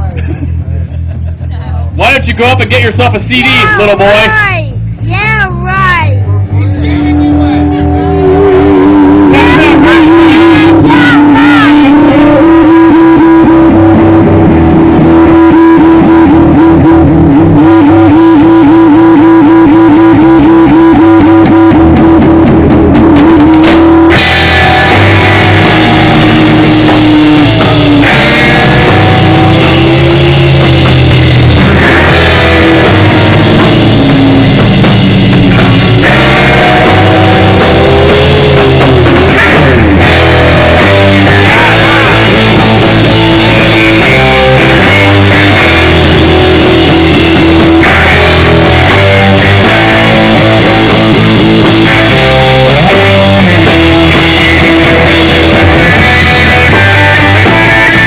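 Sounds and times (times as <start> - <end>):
bass guitar: 0.0 - 58.0
electric guitar bending notes: 0.0 - 58.0
drum kit: 6.8 - 58.0.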